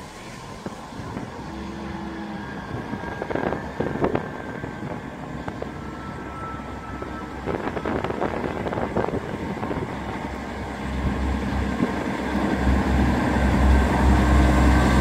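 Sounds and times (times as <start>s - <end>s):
diesel train engine idling: 0.0s - 15.0s.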